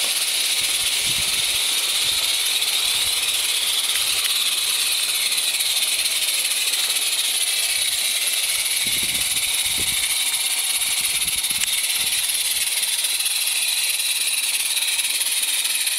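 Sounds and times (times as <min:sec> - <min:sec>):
high hiss of steam: 0:00.0 - 0:15.9.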